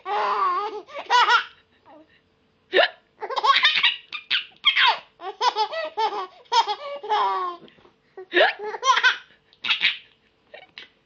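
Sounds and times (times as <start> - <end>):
baby laughing: 0.0 - 2.0, 3.2 - 10.1.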